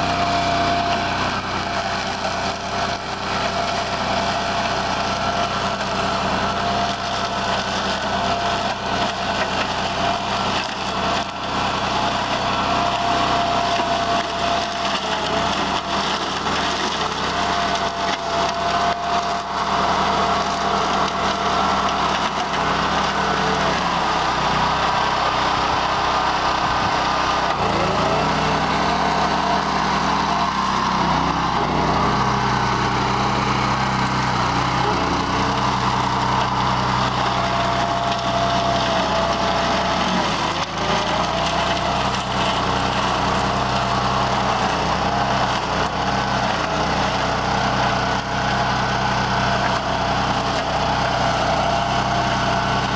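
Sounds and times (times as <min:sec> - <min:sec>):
engine running under load: 0:00.0 - 0:52.9.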